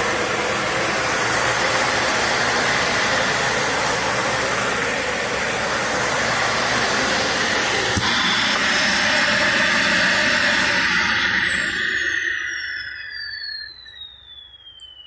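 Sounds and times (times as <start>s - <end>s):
vacuum cleaner running with whine: 0.0s - 13.0s.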